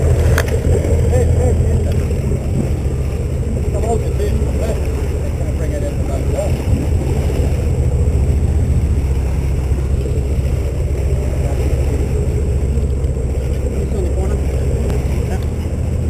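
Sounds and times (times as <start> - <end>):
boat engine rumbling: 0.0 - 16.0
water rushing along hull: 0.0 - 16.0.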